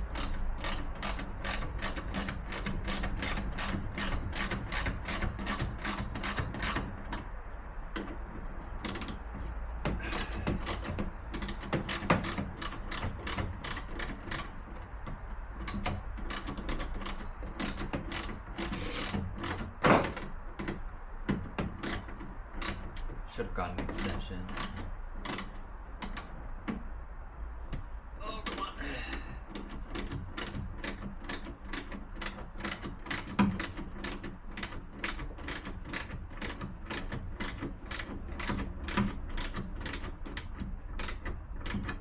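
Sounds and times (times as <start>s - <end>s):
ratchet wrench clicking: 0.0s - 7.3s, 8.0s - 23.1s, 23.8s - 26.4s, 28.4s - 42.0s.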